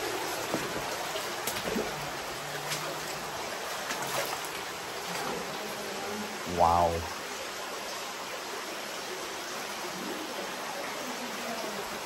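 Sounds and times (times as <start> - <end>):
cave stream flowing: 0.0 - 12.0
faint water drips: 0.0 - 12.0.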